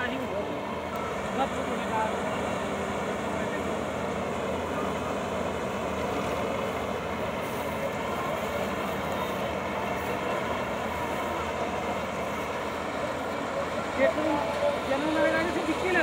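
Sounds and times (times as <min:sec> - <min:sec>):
combine harvester droning: 0:00.0 - 0:16.0.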